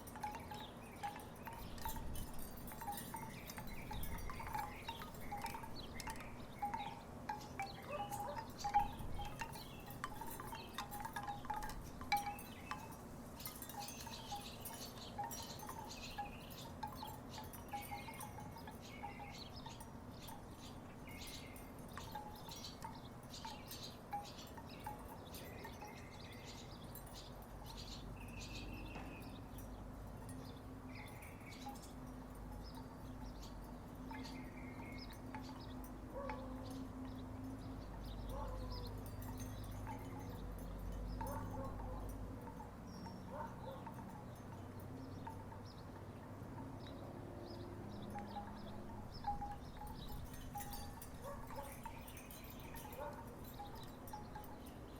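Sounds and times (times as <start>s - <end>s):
wooden wind chimes clacking: 0.0s - 54.9s.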